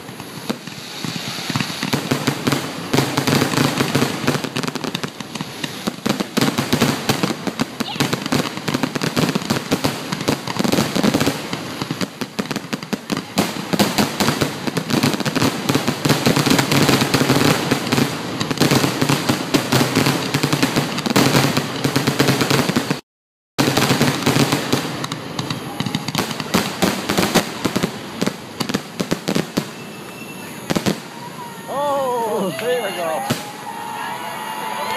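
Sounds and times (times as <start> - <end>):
fireworks bursting: 0.0 - 23.0, 23.6 - 34.9.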